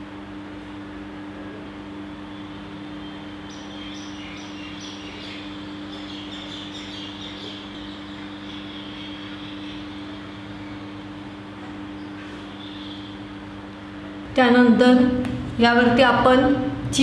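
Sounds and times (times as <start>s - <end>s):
low two-tone hum: 0.0s - 17.0s.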